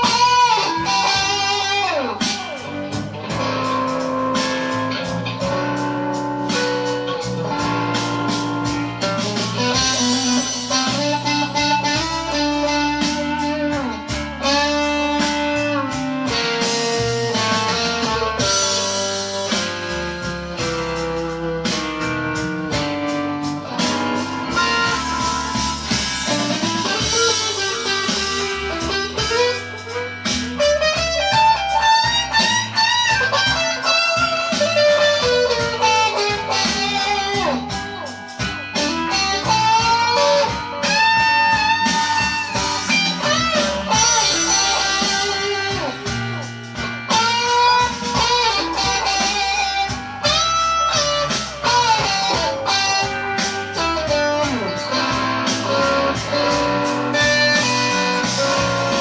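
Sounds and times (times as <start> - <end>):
electric guitar blues lead: 0.0 - 59.0.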